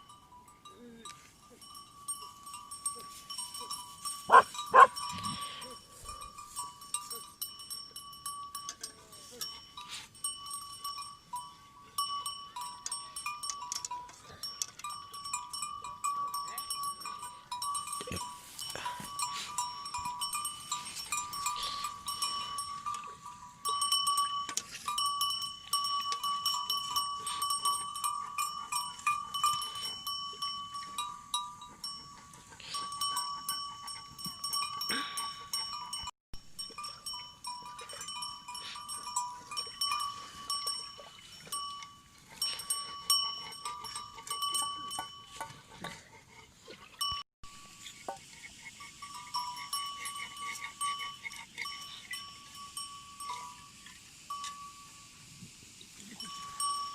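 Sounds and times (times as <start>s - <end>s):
sheep and goats: 0.0s - 56.9s.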